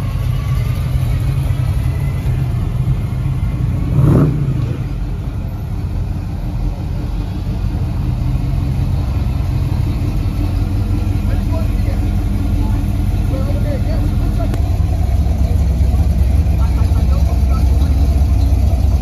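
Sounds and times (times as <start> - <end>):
car engine revving: 0.0 - 19.0
car engines rumbling: 0.0 - 19.0.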